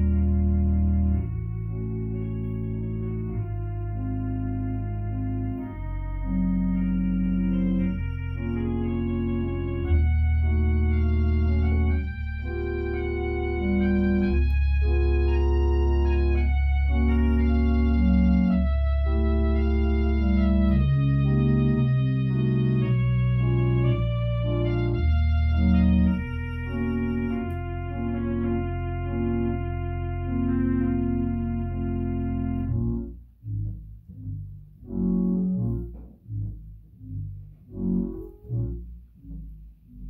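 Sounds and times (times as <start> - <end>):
organ playing solemn chords: 0.0 - 40.0.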